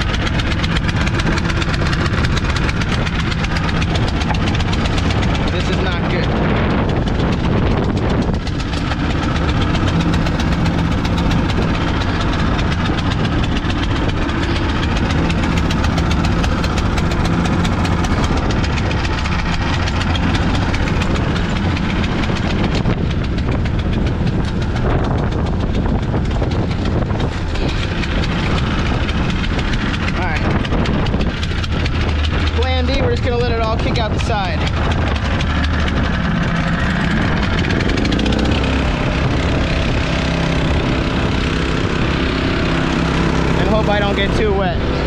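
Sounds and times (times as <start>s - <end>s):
outboard motor running: 0.0s - 45.0s
small pump engine running: 0.0s - 45.0s
water rushing along hull: 0.0s - 45.0s.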